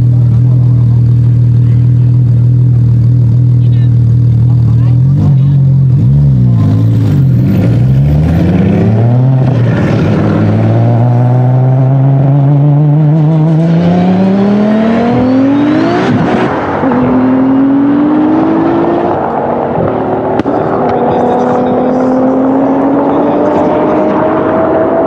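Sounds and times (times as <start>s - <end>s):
car engines at full throttle: 0.0s - 25.0s.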